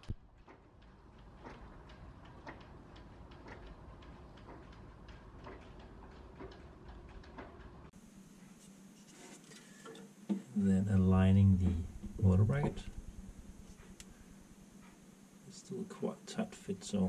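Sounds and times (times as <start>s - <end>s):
low hum: 0.0s - 17.0s
faint regular ticking: 0.3s - 8.4s, 10.0s - 17.0s.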